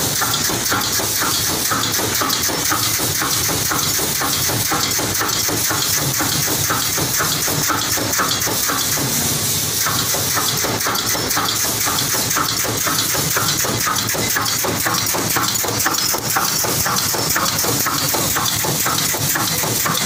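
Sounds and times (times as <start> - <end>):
machine clattering clicks and knocks: 0.0 - 20.0
compressed air hissing: 0.2 - 20.0.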